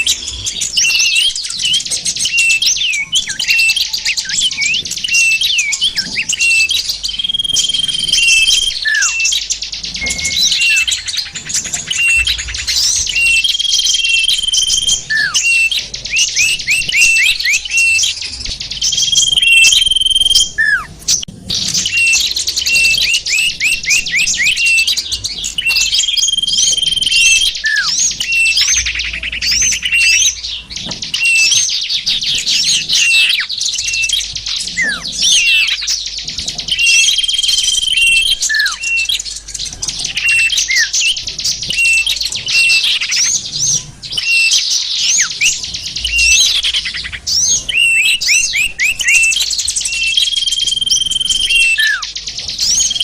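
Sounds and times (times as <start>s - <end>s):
held bird whistle: 0.0s - 53.0s
songbirds chirping and trilling: 0.0s - 53.0s.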